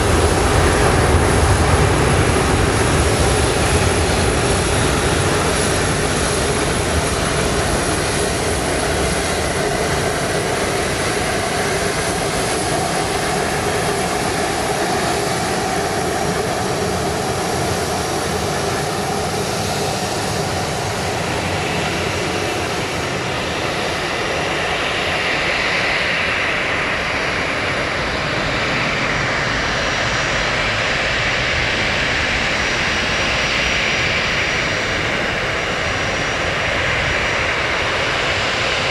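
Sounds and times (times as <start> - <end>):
jet engines and rushing air: 0.0 - 38.9.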